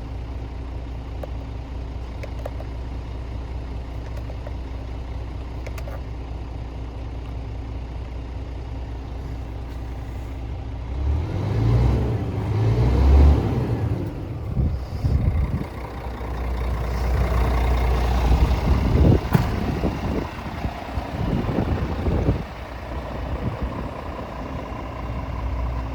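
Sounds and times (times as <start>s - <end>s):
diesel truck engine idling and revving: 0.0s - 25.9s.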